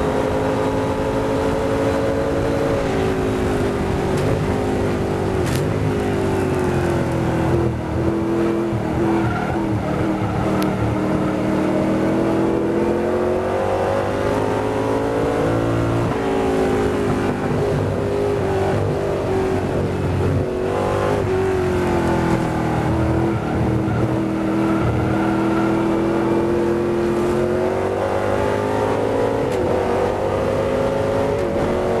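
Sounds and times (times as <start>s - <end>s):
racing car engine: 0.0s - 32.0s.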